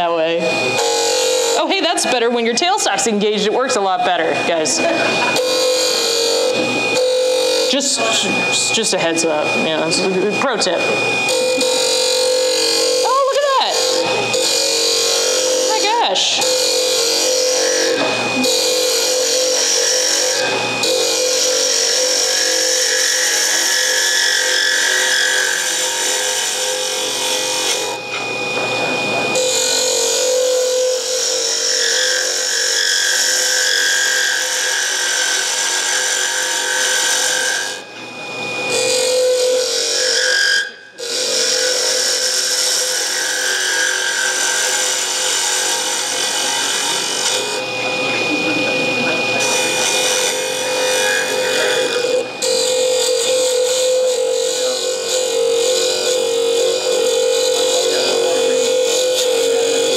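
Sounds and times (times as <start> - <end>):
lathe high whine: 0.0 - 59.9
lathe tool shaving wood: 0.0 - 59.9.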